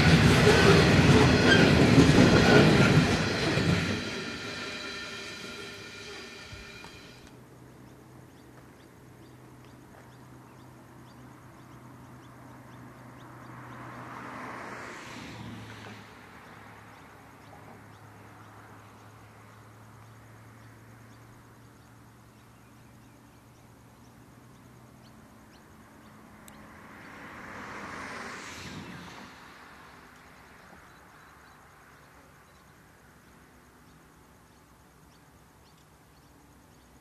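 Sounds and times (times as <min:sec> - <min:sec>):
distant diesel locomotive drone: 0:00.0 - 0:37.0.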